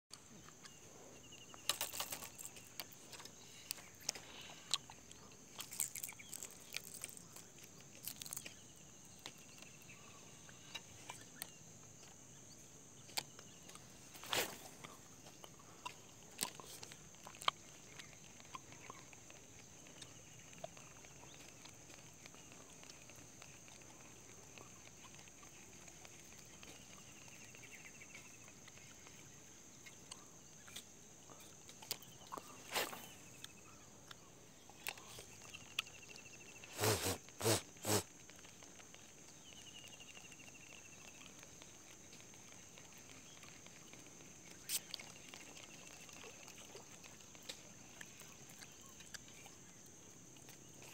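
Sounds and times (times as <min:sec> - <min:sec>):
faint chirps: 0:00.1 - 0:50.9.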